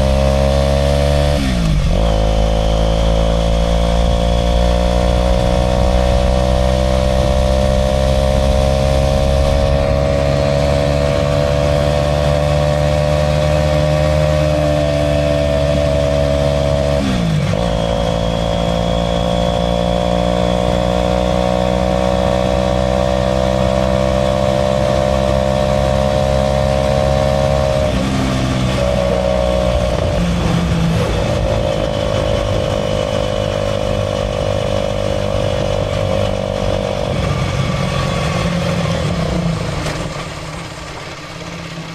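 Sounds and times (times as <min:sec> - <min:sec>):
motorcycle engine cruising: 0:00.0 - 0:41.9.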